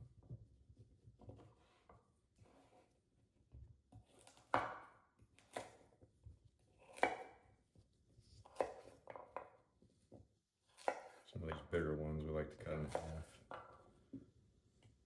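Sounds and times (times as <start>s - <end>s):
knife chopping carrots on board: 0.1s - 11.9s, 12.7s - 15.0s.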